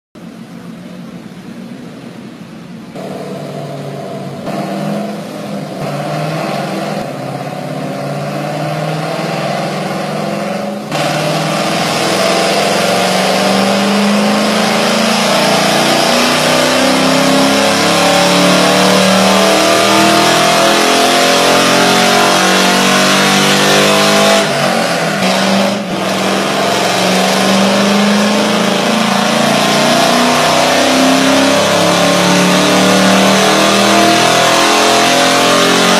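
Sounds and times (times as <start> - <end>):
car engine revving under load: 0.2 - 35.9.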